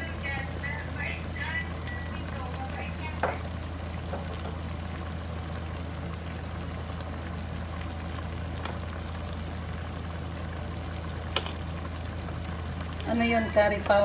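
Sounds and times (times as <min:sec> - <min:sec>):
low hum: 0:00.0 - 0:13.9.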